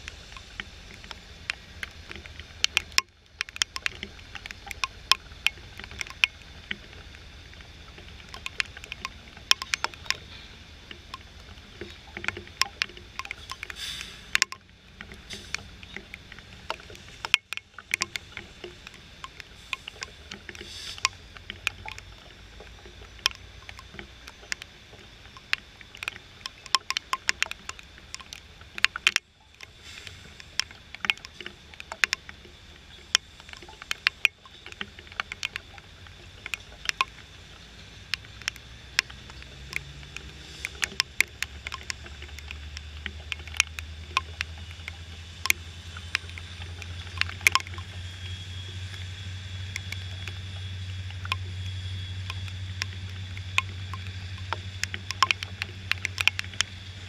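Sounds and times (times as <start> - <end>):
raindrops tapping on camera housing: 0.0 - 57.0.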